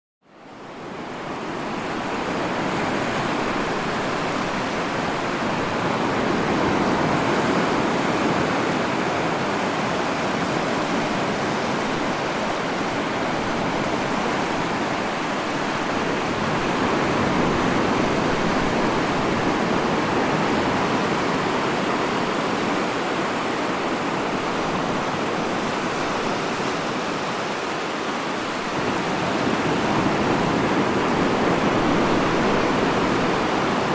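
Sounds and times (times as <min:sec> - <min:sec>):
waves breaking: 0:01.1 - 0:33.9.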